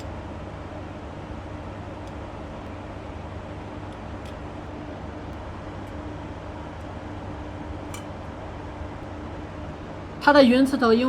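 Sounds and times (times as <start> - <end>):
low hum: 0.0 - 10.8
fan-like air noise: 0.0 - 11.0.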